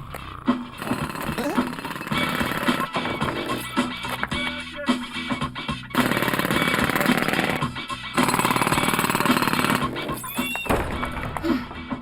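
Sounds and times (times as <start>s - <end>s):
jackhammer hammering: 0.0s - 11.5s
cartoon background music: 0.1s - 12.0s.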